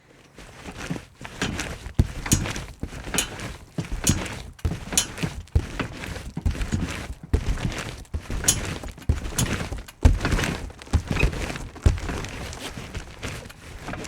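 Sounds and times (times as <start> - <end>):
trampoline bounces: 0.4 - 14.0.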